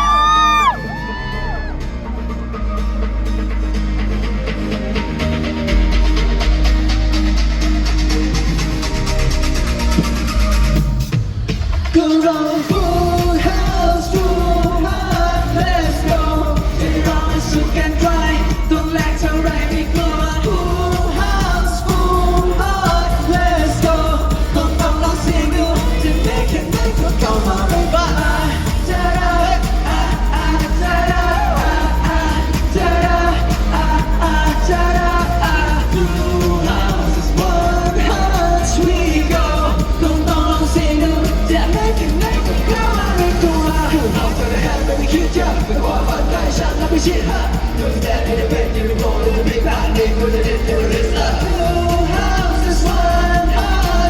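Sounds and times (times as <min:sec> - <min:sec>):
live pop music with singing: 0:00.0 - 0:54.0.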